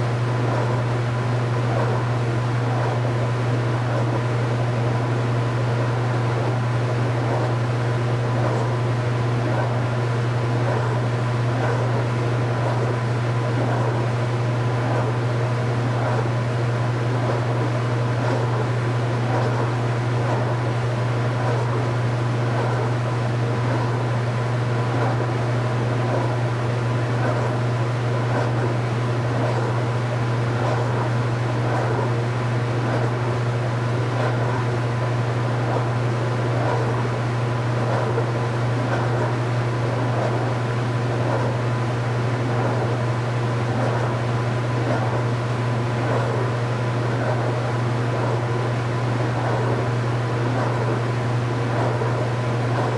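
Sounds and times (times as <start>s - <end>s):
washing machine running: 0.0s - 52.9s.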